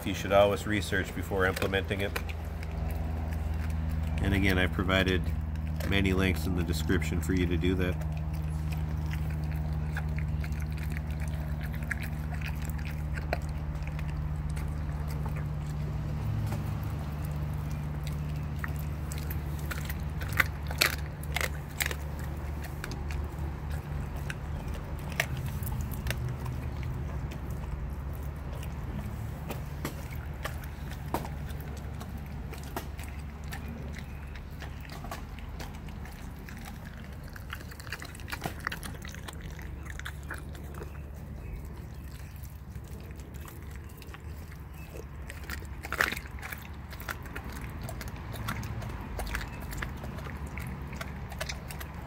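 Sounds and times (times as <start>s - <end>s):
bone crunching: 0.0s - 52.0s
dog gnawing wet meat: 0.0s - 52.0s.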